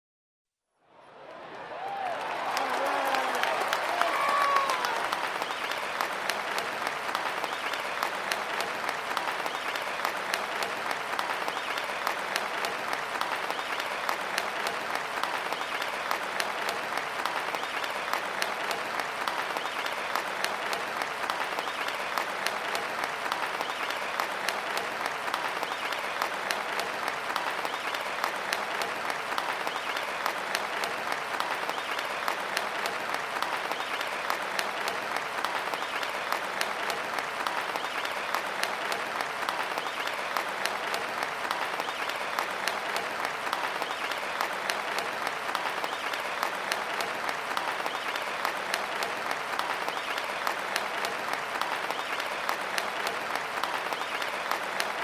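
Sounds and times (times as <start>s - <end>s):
crowd applauding: 0.9s - 55.0s.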